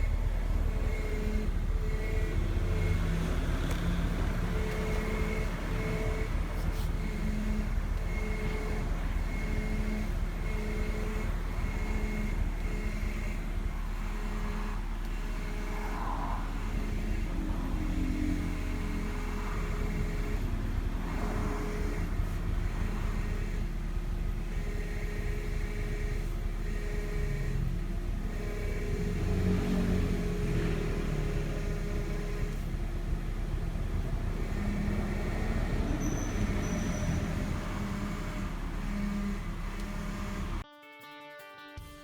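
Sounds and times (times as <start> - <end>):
car engine running: 0.0 - 40.6
power steering pump whine: 0.0 - 40.6.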